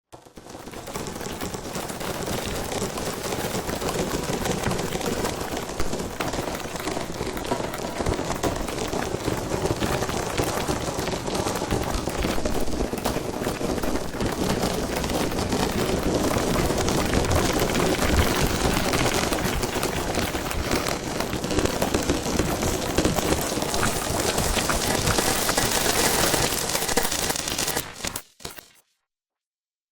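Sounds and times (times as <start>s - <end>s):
bugs skittering and scratching: 0.3s - 28.8s.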